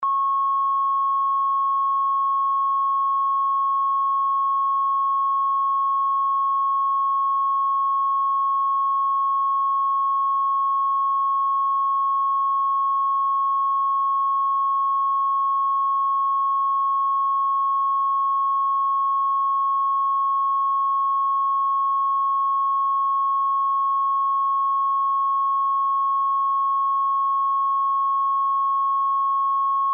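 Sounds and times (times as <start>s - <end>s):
censor bleep tone: 0.0s - 29.9s.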